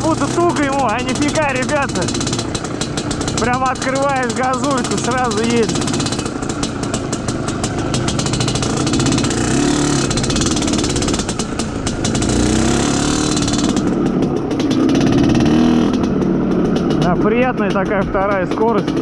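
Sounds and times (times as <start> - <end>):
motorcycle two-stroke engine: 0.0 - 19.0.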